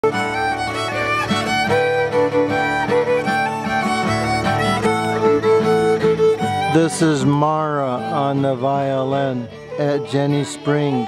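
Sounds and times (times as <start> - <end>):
violin playing a tune: 0.0 - 11.0.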